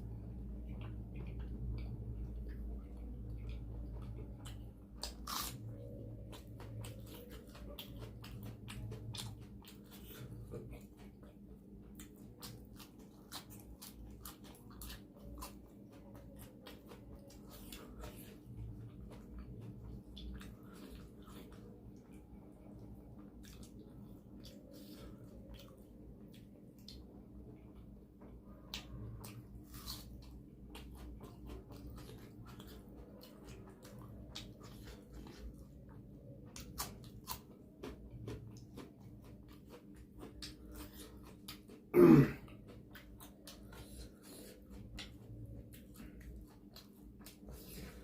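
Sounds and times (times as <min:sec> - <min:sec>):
chewing and biting food: 0:00.0 - 0:48.0.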